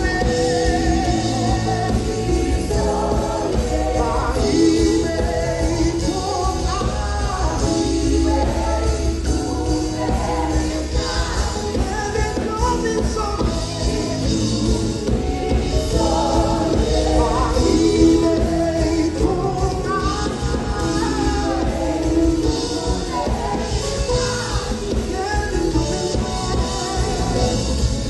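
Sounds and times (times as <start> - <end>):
band with singers performing: 0.0 - 28.0.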